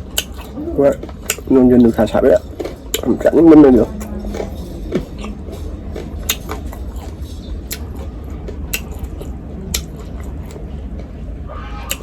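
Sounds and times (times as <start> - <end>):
eating clicks and smacks: 0.0 - 10.6
low steady rumble: 0.0 - 12.0.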